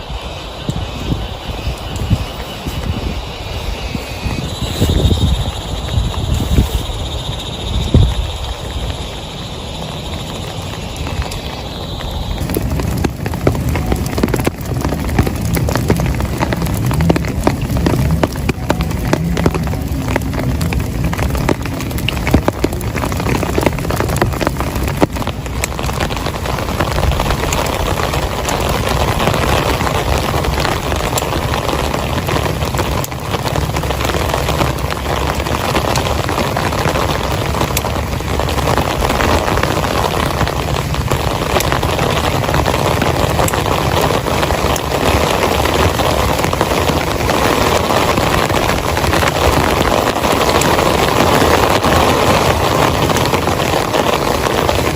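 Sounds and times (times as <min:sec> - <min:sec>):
heavy rain falling: 0:00.0 - 0:54.9
raindrops striking close by: 0:00.0 - 0:54.9.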